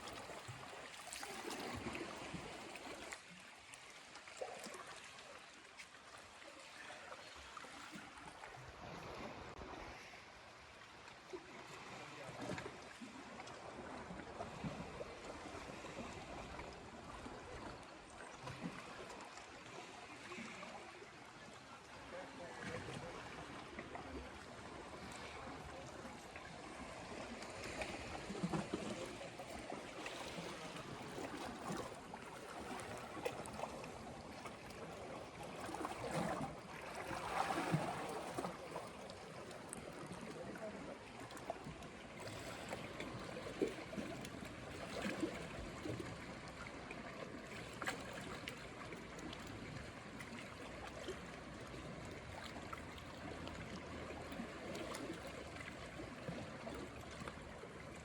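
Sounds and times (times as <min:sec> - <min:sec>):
small waves lapping at shore: 0:00.0 - 0:58.0.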